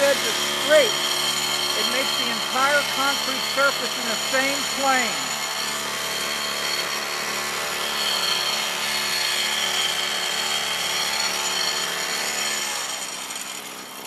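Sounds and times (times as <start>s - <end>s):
small gasoline engine running: 0.0s - 14.0s.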